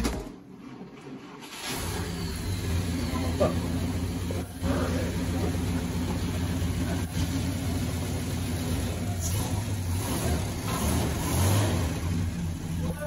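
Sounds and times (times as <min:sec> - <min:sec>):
car engine idling: 0:01.5 - 0:13.0.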